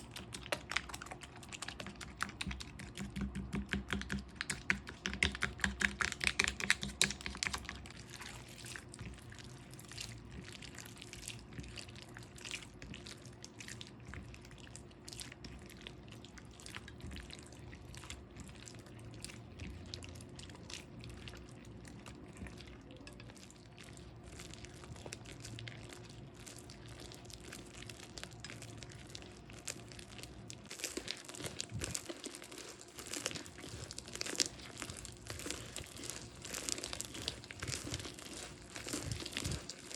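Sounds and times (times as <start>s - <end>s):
slime squishing and crackling: 0.0s - 39.9s.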